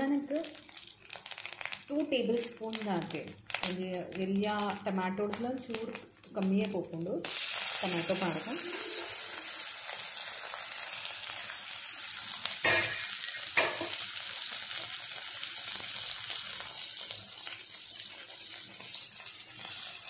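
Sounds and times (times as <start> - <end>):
tomatoes sizzling in oil: 0.0 - 20.0.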